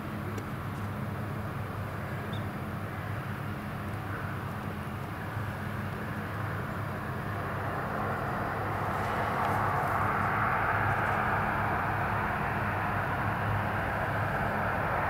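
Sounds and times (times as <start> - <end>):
jet engines rushing: 0.1 - 15.0.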